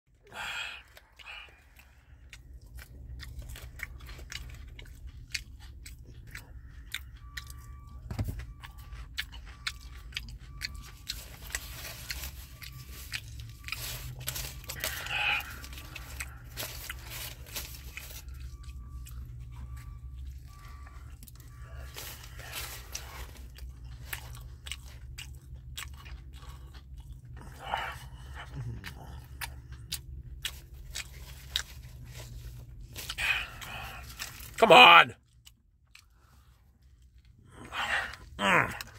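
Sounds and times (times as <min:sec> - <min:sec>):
person chewing a sandwich: 0:00.1 - 0:38.9.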